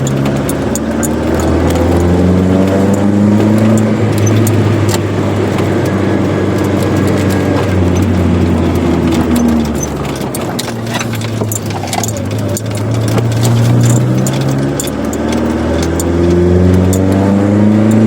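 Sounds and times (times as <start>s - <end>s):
car engine accelerating and cruising: 0.0s - 18.0s
light clicks and rattles: 0.0s - 18.0s.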